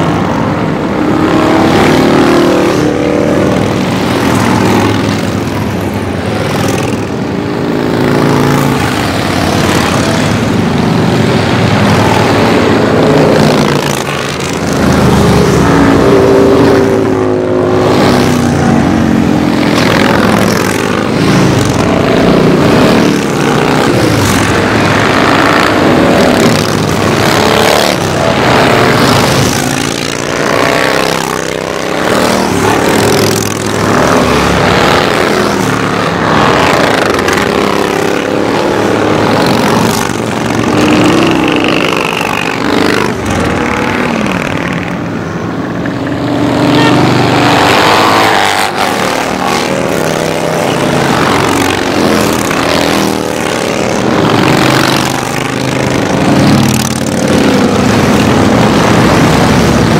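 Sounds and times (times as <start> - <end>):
motorcycles riding past: 0.0 - 59.9.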